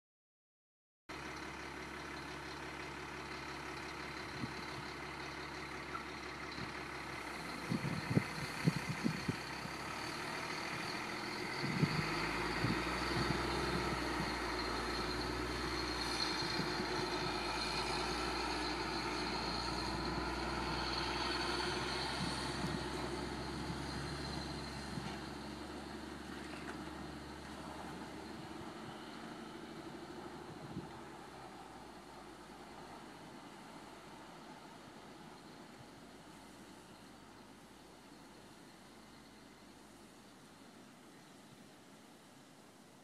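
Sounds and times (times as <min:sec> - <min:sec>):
truck engine idling: 0:01.1 - 0:40.7.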